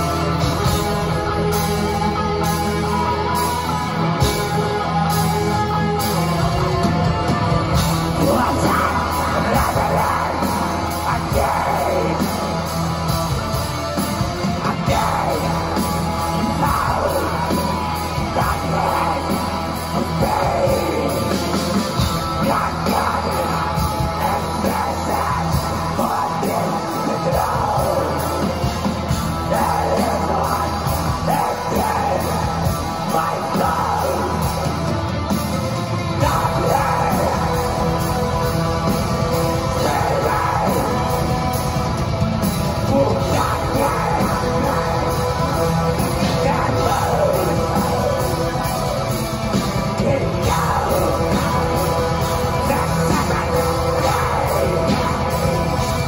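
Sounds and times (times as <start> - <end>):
live metal band: 0.0 - 56.0
shouted lead vocal: 0.0 - 56.0.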